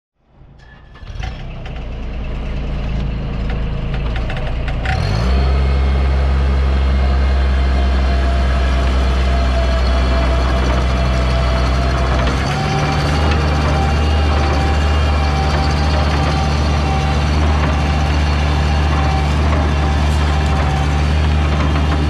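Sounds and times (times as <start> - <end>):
loader engine starting and running: 0.3 - 22.0.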